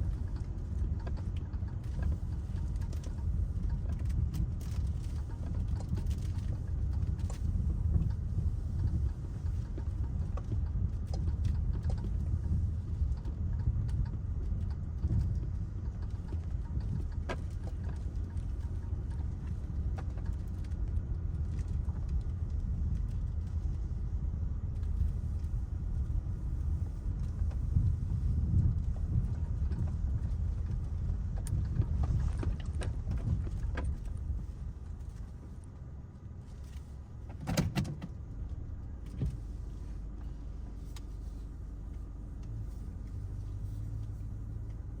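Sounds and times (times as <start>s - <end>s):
road and engine rumble in car: 0.0s - 45.0s.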